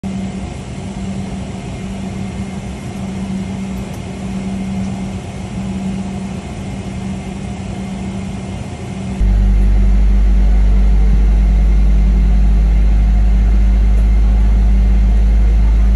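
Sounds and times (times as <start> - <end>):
airplane cabin hum: 0.0 - 15.9.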